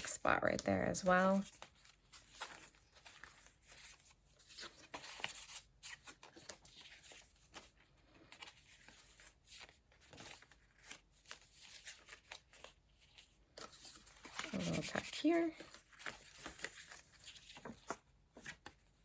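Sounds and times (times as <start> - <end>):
paper pages rustling: 0.0 - 19.0.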